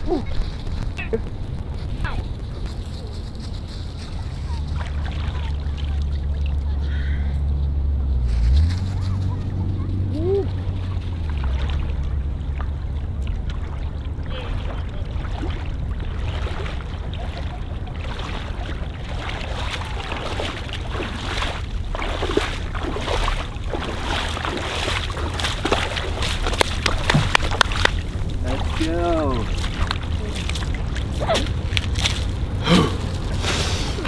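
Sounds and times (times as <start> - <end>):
water splashing around legs: 0.0 - 6.9, 10.0 - 34.0
low rumble: 0.0 - 34.0.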